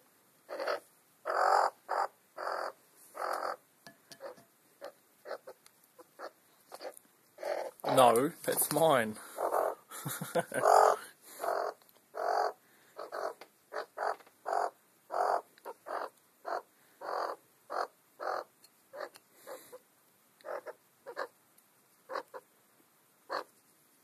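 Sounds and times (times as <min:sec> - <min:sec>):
magpie croaky calls: 0:00.5 - 0:08.0, 0:09.2 - 0:19.8, 0:20.4 - 0:21.4, 0:22.1 - 0:22.5, 0:23.3 - 0:23.5.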